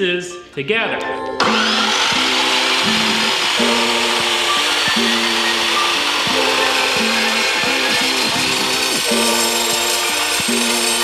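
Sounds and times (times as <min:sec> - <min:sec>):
background music with beat: 0:00.4 - 0:11.0
chop saw cutting steel: 0:01.4 - 0:11.0.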